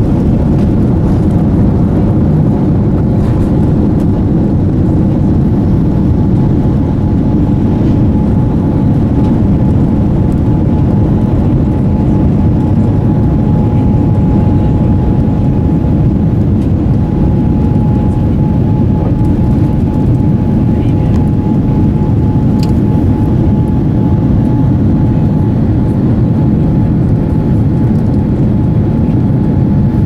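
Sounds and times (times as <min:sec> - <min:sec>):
thin steady whine: 0:00.0 - 0:27.8
jet engine and airflow noise: 0:00.0 - 0:30.0.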